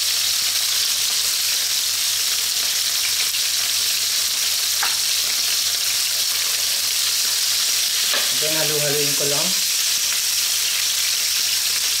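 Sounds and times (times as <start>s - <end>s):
liver sizzling in hot oil: 0.0s - 12.0s.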